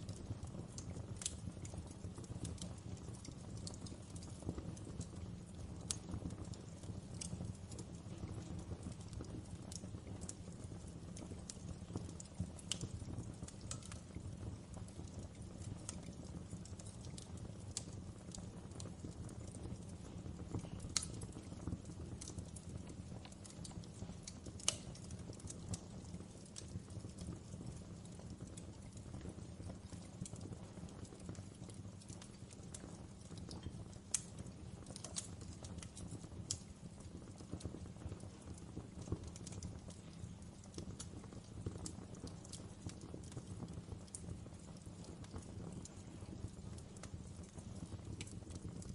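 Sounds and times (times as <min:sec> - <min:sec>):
low rumble of flames: 0:00.0 - 0:48.9
wood fire crackling: 0:00.0 - 0:48.9.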